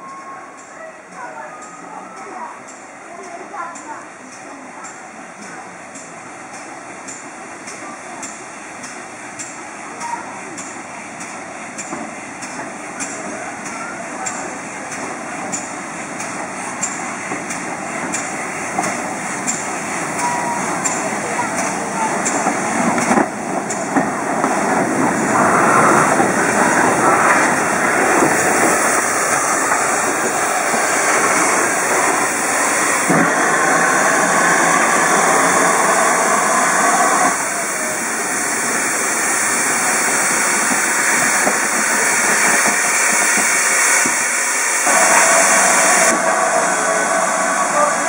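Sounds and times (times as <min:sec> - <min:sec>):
steam locomotive hissing: 0:00.0 - 0:48.0.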